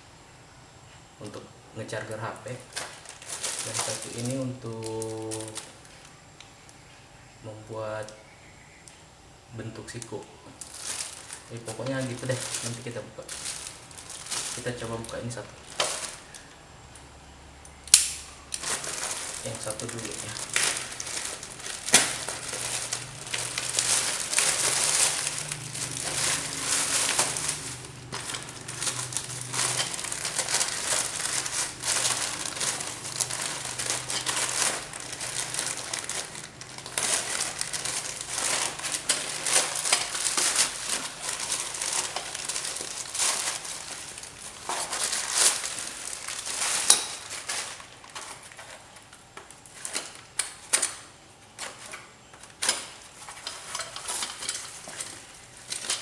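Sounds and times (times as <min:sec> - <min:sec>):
packaging crinkling and rustling: 0:01.9 - 0:06.9, 0:09.8 - 0:17.1, 0:17.9 - 0:56.0.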